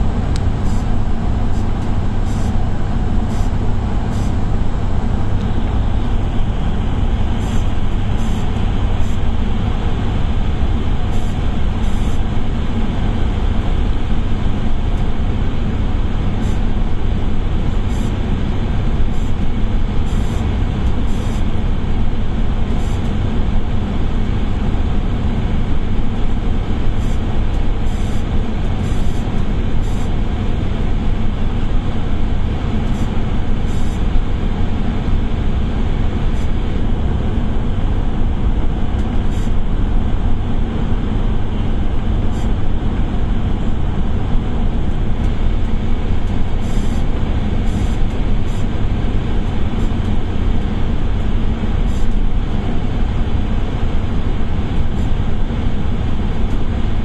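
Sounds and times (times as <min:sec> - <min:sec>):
bus engine and tyre rumble: 0:00.0 - 0:57.0.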